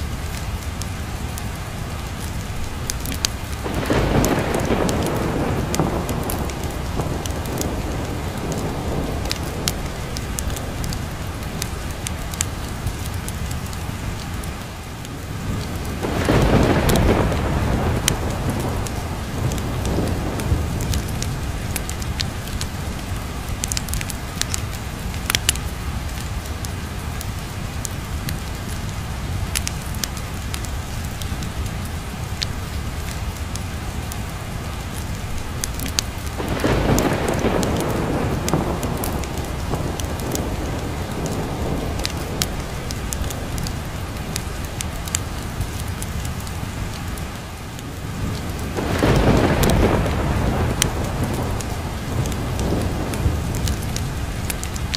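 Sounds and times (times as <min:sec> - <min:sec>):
heavy rain: 0:00.0 - 0:54.9
sharp crackles: 0:00.0 - 0:54.9
thunder rumbling: 0:00.0 - 0:54.9.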